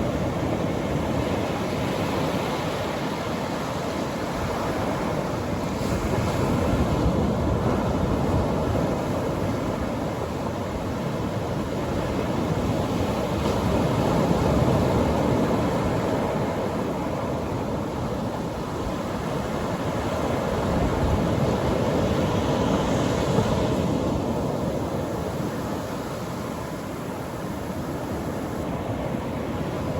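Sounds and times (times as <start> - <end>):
ocean surf breaking on beach: 0.0 - 29.9.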